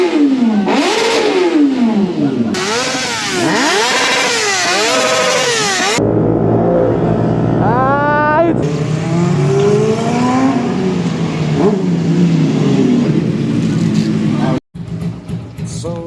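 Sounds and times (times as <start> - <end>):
motorcycle engines revving: 0.0 - 15.4.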